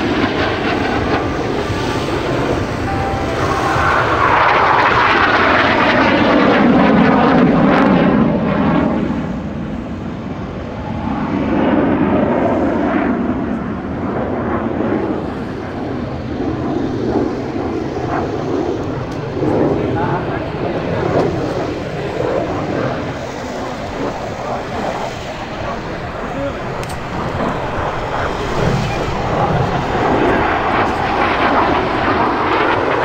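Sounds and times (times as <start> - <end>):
jet planes flying past: 0.0 - 33.0.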